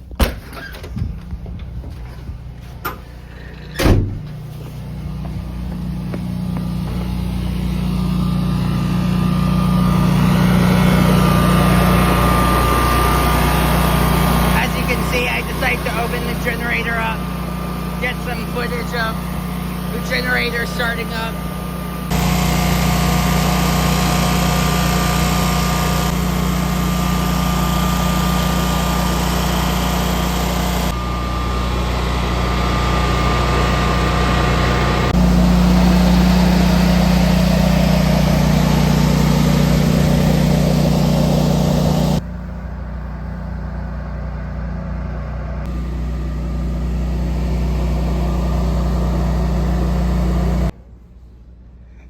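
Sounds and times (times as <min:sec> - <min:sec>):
standby generator engine hum: 0:00.8 - 0:51.0.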